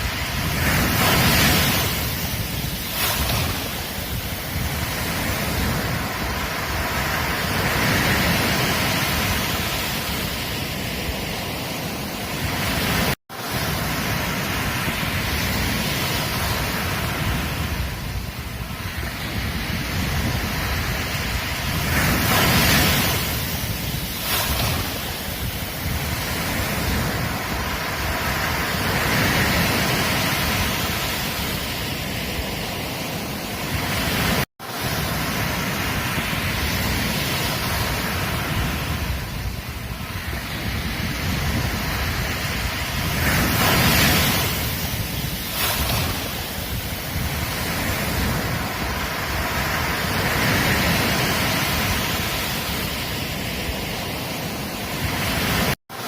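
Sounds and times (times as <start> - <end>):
ocean surf breaking on a beach: 0.0 - 56.0
wind rumbling on the microphone: 0.0 - 56.0.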